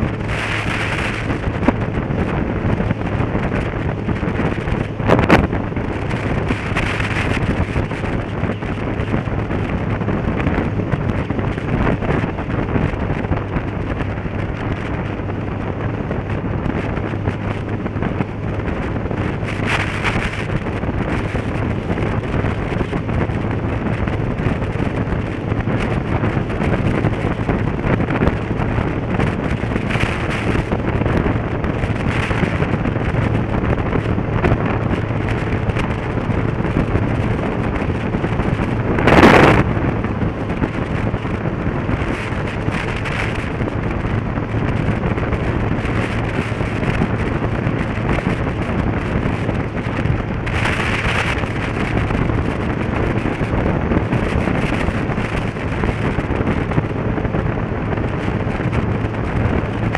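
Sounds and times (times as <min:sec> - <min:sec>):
motorcycle engine hum: 0:00.0 - 0:59.9
road noise: 0:00.0 - 0:59.9
wind rushing over microphone: 0:00.0 - 0:59.9.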